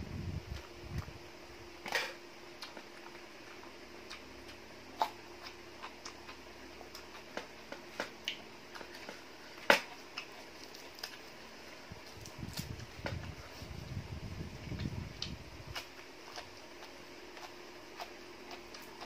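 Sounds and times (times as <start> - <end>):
faint steady hum: 0.0 - 19.0
person chewing crisp lettuce: 2.6 - 13.9, 14.5 - 19.0.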